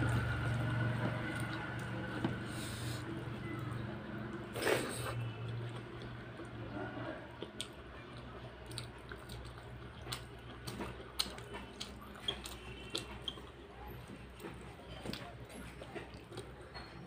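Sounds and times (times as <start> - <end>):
wet squishy chewing: 0.0 - 17.0.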